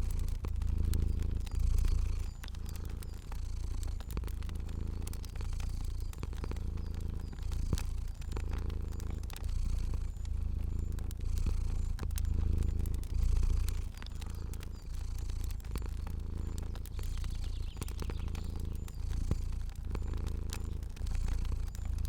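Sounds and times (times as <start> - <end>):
cat purring: 0.0 - 22.0
fire crackling with pops: 0.0 - 22.0.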